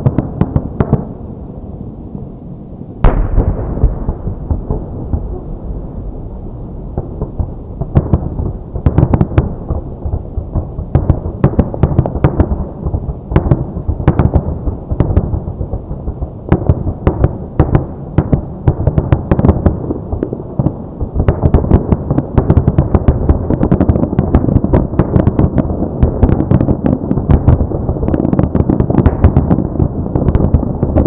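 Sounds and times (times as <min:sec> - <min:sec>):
fireworks booming with echo: 0:00.0 - 0:31.0
fireworks booms and crackles: 0:00.0 - 0:31.0.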